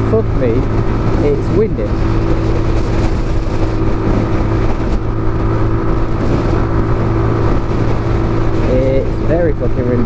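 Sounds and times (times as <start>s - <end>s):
motorcycle engine running: 0.0s - 10.0s
wind buffeting microphone: 0.0s - 10.0s.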